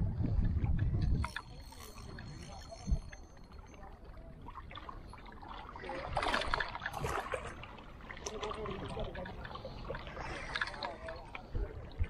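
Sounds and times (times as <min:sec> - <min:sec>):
sea water lapping on rocks: 0:00.0 - 0:12.0
water splashing: 0:00.4 - 0:12.0.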